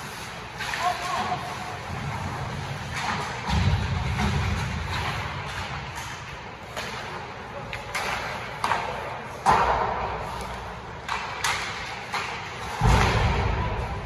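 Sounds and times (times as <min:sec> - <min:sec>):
hockey sticks clacking puck: 0:00.0 - 0:13.9
skates on ice: 0:00.0 - 0:14.0.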